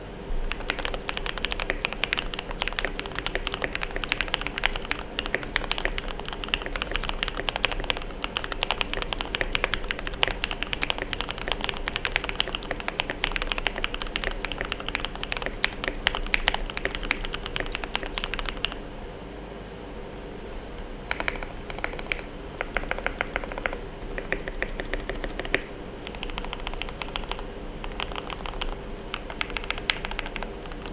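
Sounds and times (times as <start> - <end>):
mechanical keyboard typing: 0.5 - 18.8, 21.1 - 30.9.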